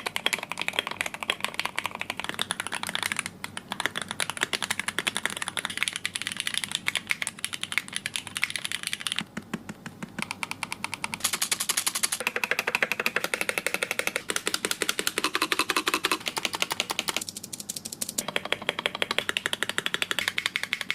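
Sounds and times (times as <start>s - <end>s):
computer keyboard typing: 0.0s - 20.9s.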